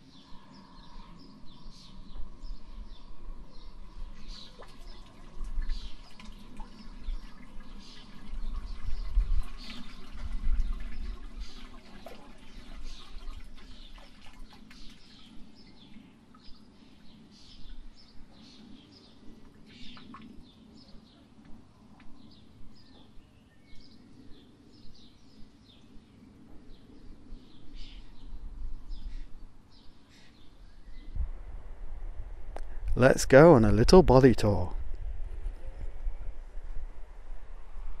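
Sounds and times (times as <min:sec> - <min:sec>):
small birds chirping: 0:00.0 - 0:31.2
wind rumbling on microphone: 0:00.0 - 0:38.0.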